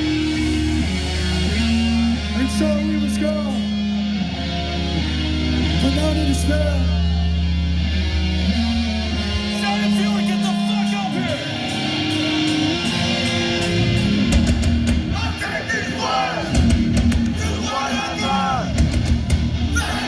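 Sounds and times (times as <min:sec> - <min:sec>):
distorted electric guitar chords: 0:00.0 - 0:20.0
held bass notes: 0:00.0 - 0:20.0.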